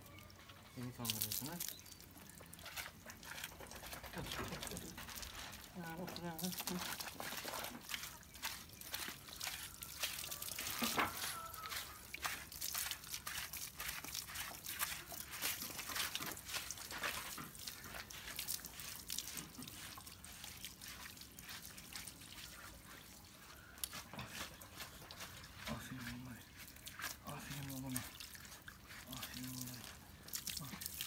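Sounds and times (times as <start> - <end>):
water splashing and dripping: 0.0 - 31.0.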